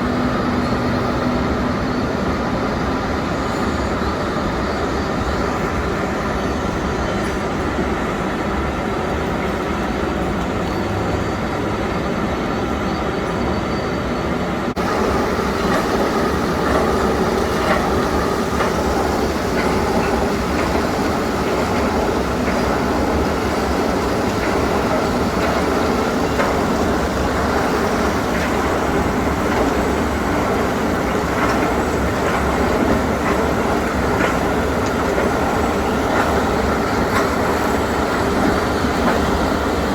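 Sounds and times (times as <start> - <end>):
heavy machine running: 0.0 - 39.9.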